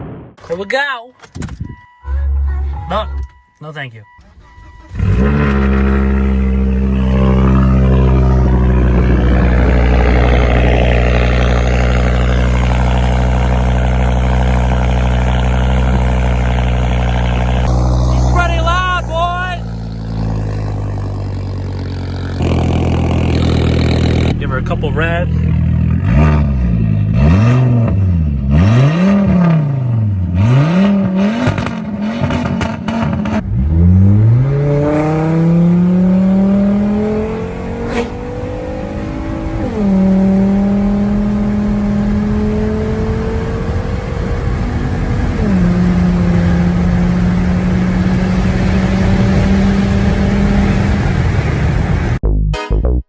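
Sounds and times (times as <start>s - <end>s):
car engine revving: 4.0s - 52.2s.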